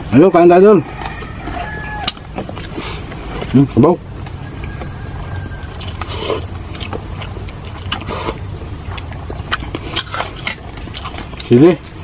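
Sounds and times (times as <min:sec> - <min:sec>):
eating noises: 0:00.0 - 0:12.0
low hum: 0:00.8 - 0:12.0.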